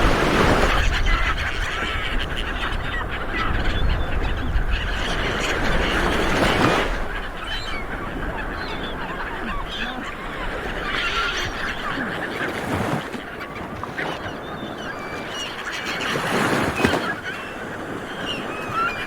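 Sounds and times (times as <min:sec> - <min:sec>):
seabirds honking calls: 0:00.0 - 0:19.0.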